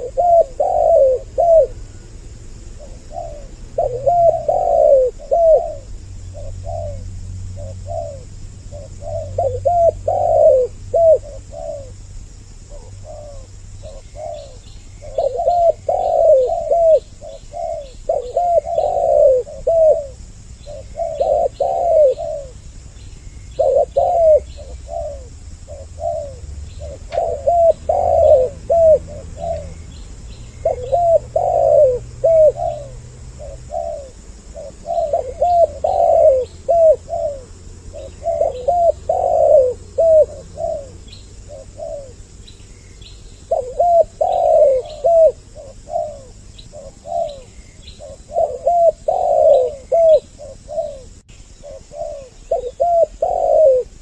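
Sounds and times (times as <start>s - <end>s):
doves cooing: 0.0s - 42.4s, 43.3s - 54.0s
small birds chirping: 0.0s - 54.0s.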